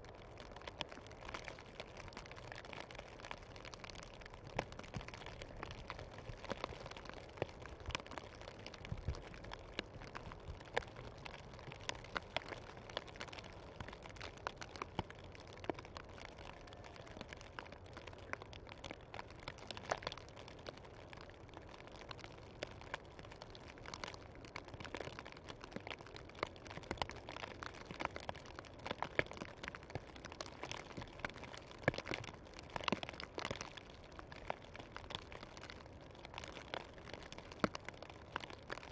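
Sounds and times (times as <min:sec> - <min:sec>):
faint steady hiss: 0:00.0 - 0:38.9
snow ticking and crackling: 0:00.0 - 0:38.9.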